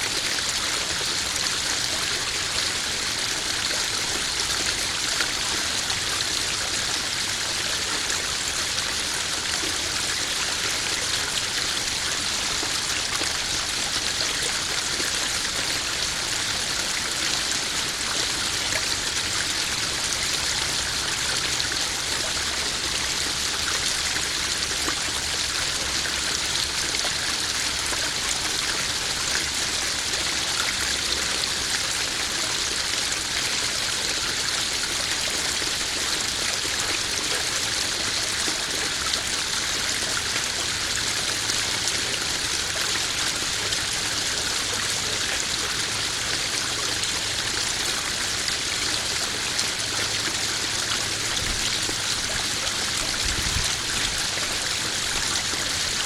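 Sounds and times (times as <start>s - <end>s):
waterfall splashing into pond: 0.0s - 56.0s.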